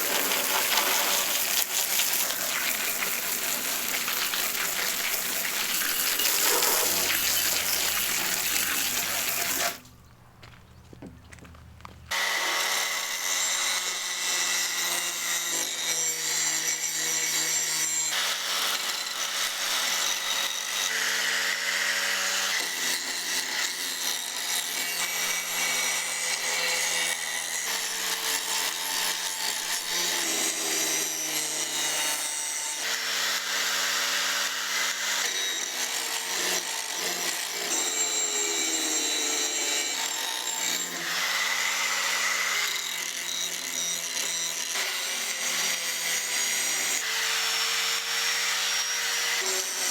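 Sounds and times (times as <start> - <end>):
power tool grinding: 0.0 - 49.9.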